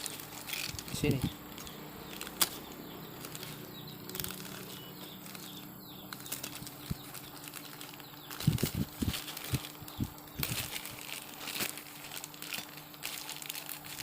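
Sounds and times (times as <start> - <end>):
plastic packet rustling: 0.0 - 14.0.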